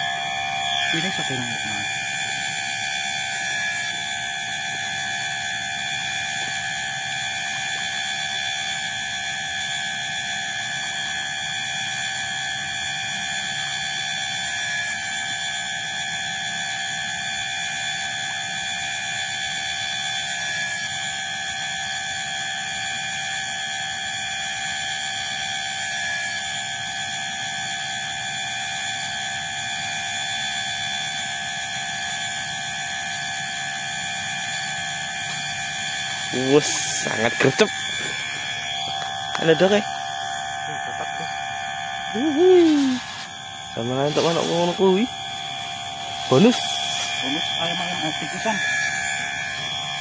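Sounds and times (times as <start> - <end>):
night insects droning: 0.0 - 50.0.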